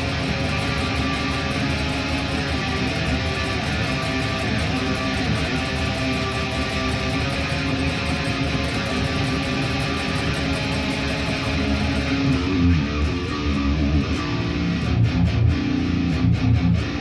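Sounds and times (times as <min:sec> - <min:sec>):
guitar playing: 0:00.0 - 0:17.0.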